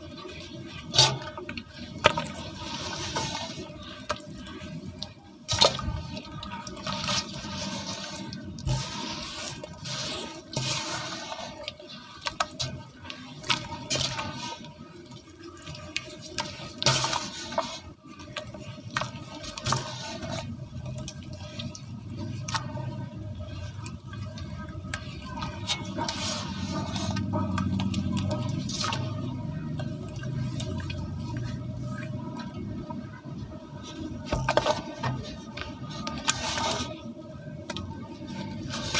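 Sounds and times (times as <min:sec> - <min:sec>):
hands squelching wet cement slurry: 0:00.0 - 0:38.9.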